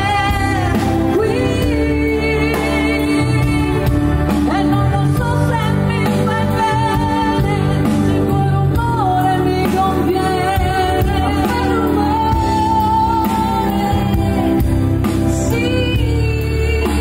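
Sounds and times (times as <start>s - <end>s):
live pop band playing: 0.0s - 17.0s
woman singing: 0.0s - 17.0s.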